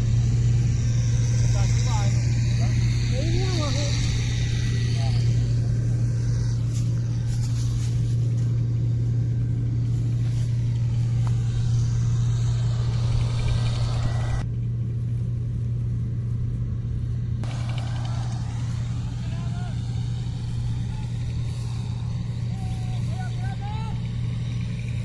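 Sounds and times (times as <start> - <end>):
harvesting machinery engine humming: 0.0 - 25.0
higher machine noise: 0.0 - 25.0.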